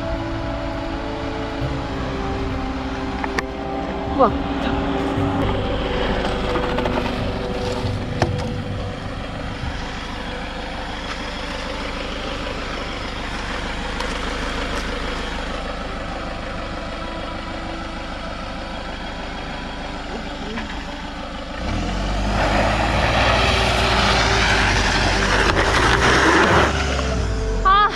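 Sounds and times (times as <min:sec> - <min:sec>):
vehicle engine idling: 0:00.0 - 0:27.9.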